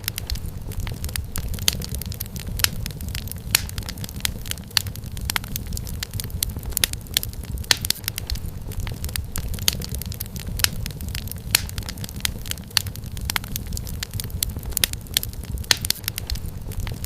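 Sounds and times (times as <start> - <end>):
burning firewood popping and snapping: 0.0 - 17.0
low rumble of flames: 0.0 - 17.0.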